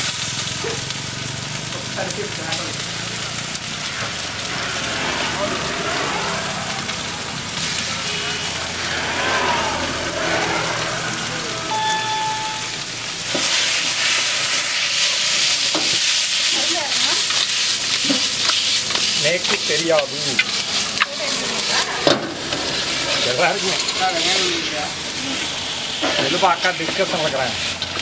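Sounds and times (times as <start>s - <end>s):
chicken sizzling in oil: 0.0s - 28.0s
metal ladle scraping wok: 3.7s - 28.0s.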